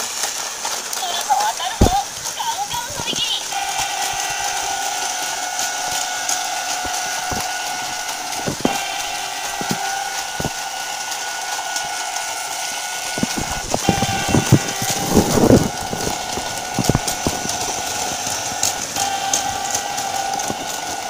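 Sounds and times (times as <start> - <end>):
toy crossing warning bell: 0.9 - 21.0.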